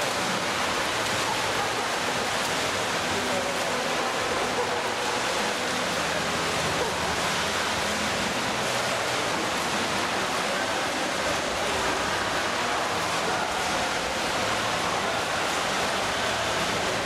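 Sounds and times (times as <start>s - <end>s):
swimmers splashing in pool: 0.0s - 17.0s.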